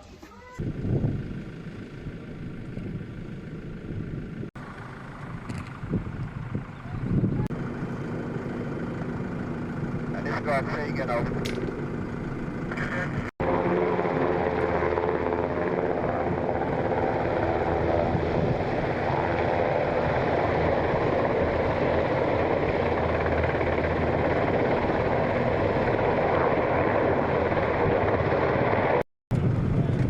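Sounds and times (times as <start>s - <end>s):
helicopter rotor and turbine: 0.6s - 30.0s.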